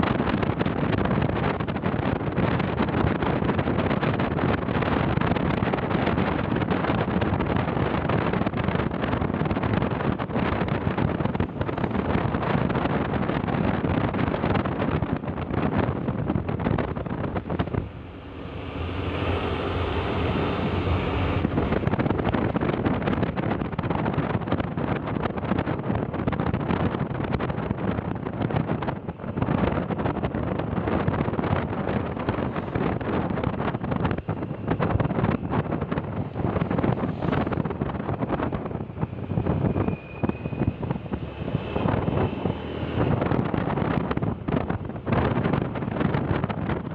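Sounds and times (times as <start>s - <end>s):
engine hum: 0.0s - 46.9s
vehicle running on road: 0.0s - 46.9s
wind rushing over microphone: 0.0s - 46.9s.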